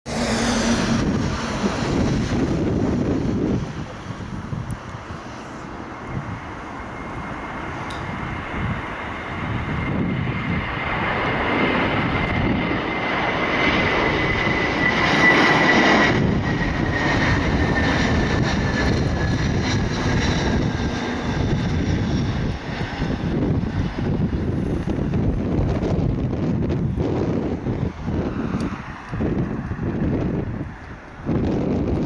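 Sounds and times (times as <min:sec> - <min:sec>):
high engine whine: 0:00.0 - 0:32.0
jet engine roar: 0:00.0 - 0:32.0.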